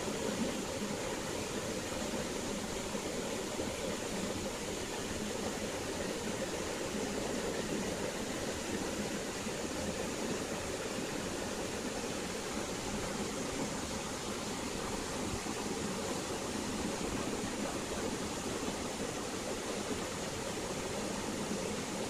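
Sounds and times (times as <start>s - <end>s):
stream flowing: 0.0s - 22.0s.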